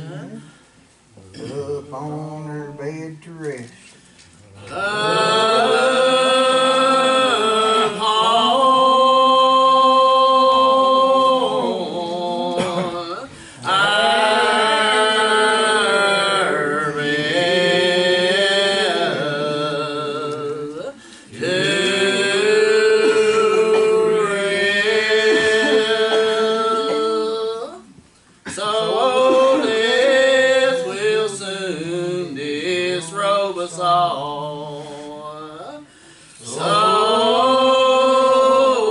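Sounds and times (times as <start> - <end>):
congregation singing a hymn: 4.6 - 38.9.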